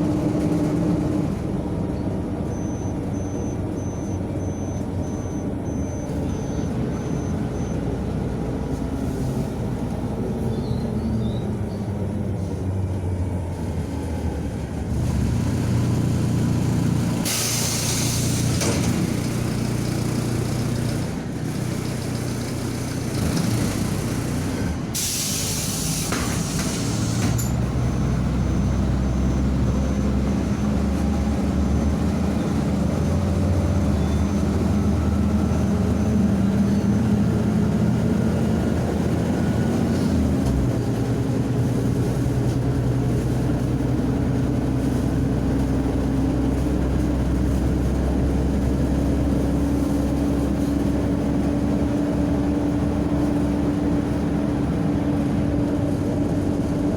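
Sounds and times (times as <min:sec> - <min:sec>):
bus diesel engine accelerating: 0:00.0 - 0:56.9.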